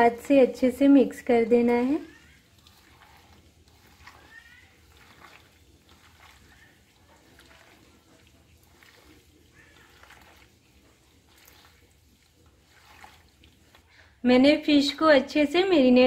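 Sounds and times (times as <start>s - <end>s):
hand mixing fish wet squishing: 0.0s - 16.0s.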